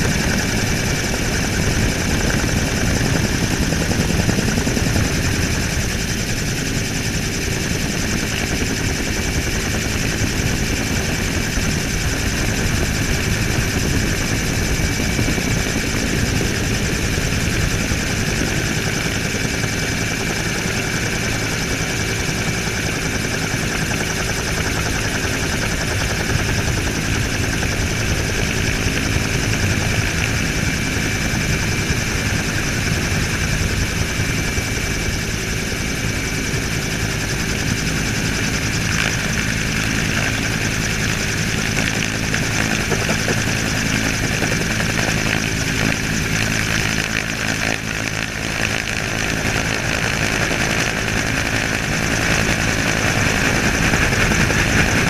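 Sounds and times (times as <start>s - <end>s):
helicopter rotor beat: 0.0s - 55.0s
high turbine whine: 0.0s - 55.0s
wind noise: 0.0s - 55.0s.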